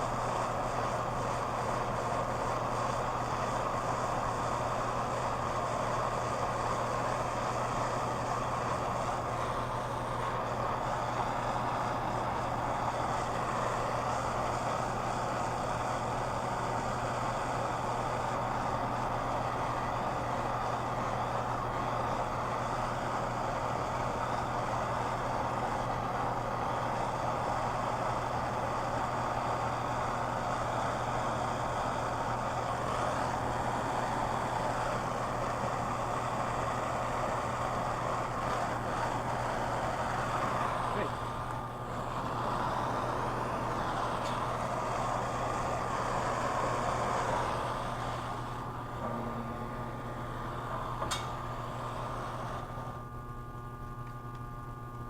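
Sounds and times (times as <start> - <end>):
gas torch flame hissing: 0.0 - 54.3.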